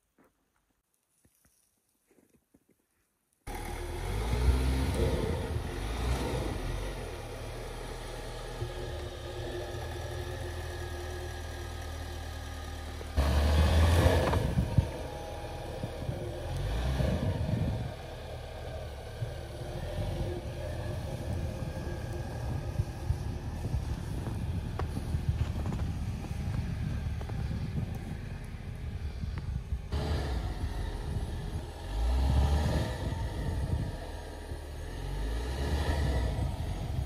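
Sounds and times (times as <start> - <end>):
vehicle engine droning: 3.5 - 37.0.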